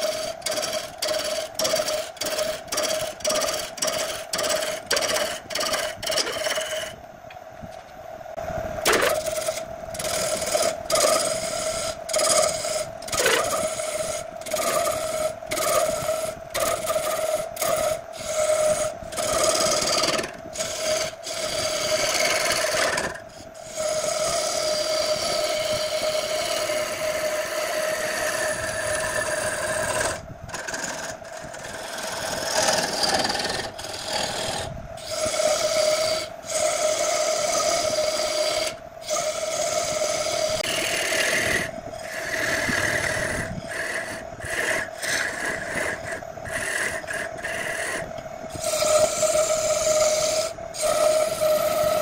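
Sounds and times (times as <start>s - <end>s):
gouge scraping spinning wood: 0.0s - 7.0s, 8.8s - 52.0s
wood lathe hum: 0.0s - 7.0s, 8.8s - 52.0s.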